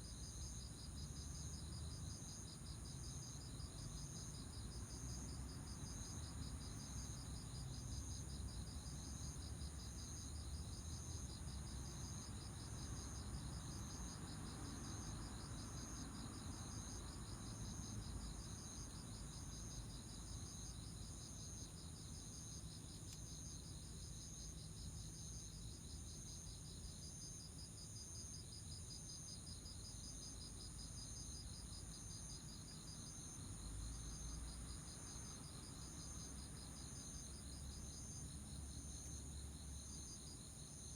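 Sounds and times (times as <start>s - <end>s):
slow repeating cricket chirp: 0.0s - 40.9s.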